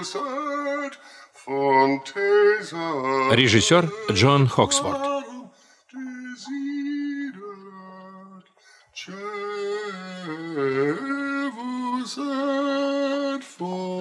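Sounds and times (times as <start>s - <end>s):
person singing unaccompanied: 0.0s - 14.0s.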